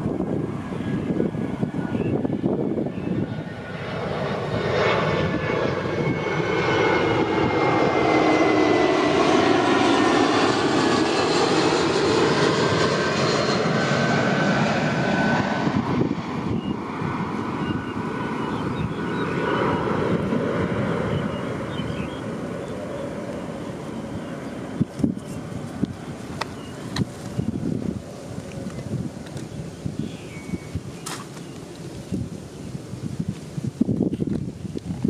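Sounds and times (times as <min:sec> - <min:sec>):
airplane engine drone overhead: 0:00.0 - 0:35.0.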